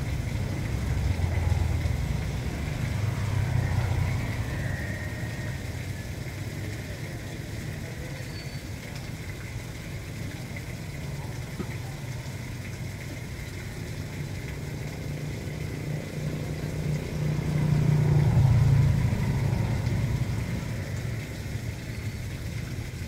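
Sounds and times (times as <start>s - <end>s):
vehicle engine running: 0.0s - 8.1s, 12.5s - 23.0s
rainwater running through drain: 0.0s - 23.0s.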